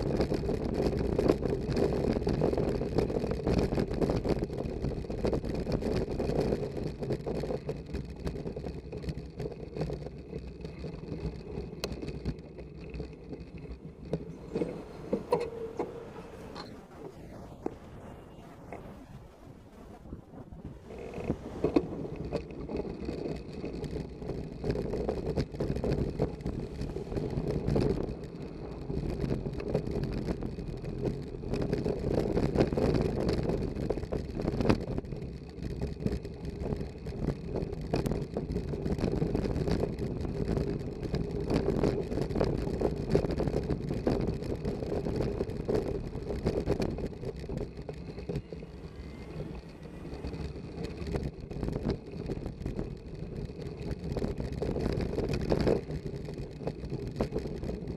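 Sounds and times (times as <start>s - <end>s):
bicycle rumbling over cobblestones: 0.0s - 57.9s.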